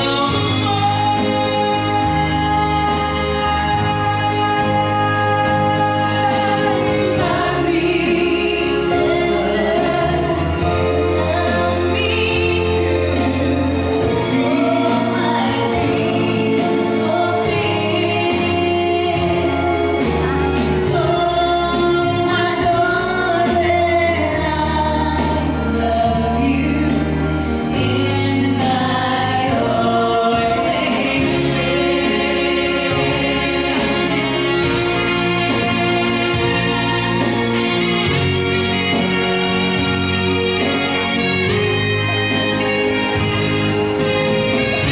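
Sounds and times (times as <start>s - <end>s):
group singing gospel harmony: 0.0s - 40.2s
backing band with bass and beat: 0.0s - 44.9s.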